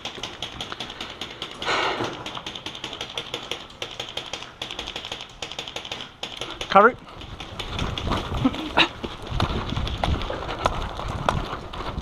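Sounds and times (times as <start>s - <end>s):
airsoft guns firing: 0.0s - 10.2s.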